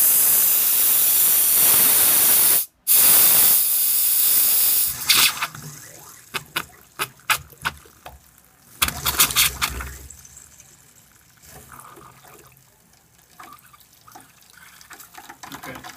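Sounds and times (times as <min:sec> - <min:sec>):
faucet sputtering water: 0:00.0 - 0:15.9.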